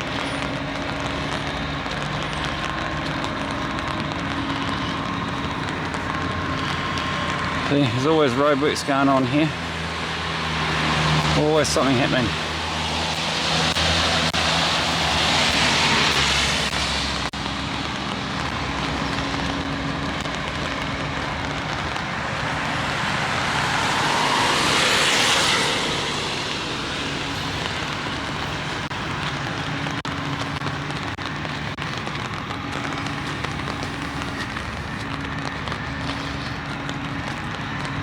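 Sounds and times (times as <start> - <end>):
car tyre hiss on wet road: 0.0 - 38.0
rain pattering on umbrella: 0.0 - 38.0.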